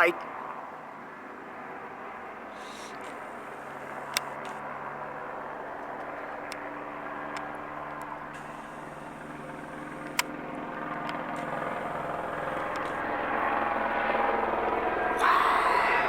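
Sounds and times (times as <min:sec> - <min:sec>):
helicopter rotor drone: 0:00.0 - 0:16.0.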